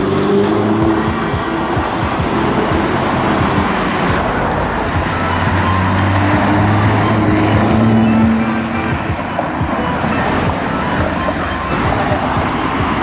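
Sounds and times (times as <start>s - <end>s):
car engine running: 0.0s - 13.0s
street traffic noise: 0.0s - 13.0s.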